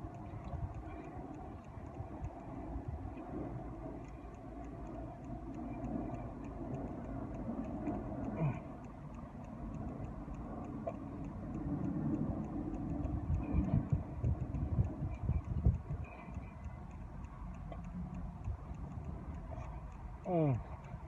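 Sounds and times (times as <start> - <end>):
faint regular ticking: 0.0 - 21.0.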